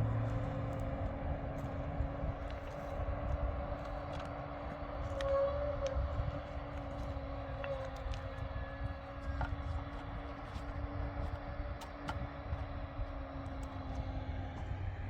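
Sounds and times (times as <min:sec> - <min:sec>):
engine humming with low rumble: 0:00.0 - 0:15.0.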